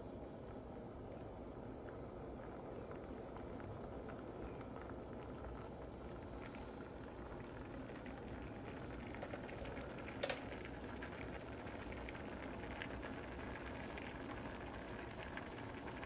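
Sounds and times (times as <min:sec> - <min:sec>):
water boiling with pops: 0:00.1 - 0:16.0.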